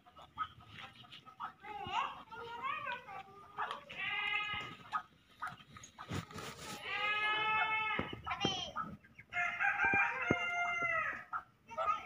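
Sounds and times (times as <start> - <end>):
farm animals calling: 0.0 - 12.0.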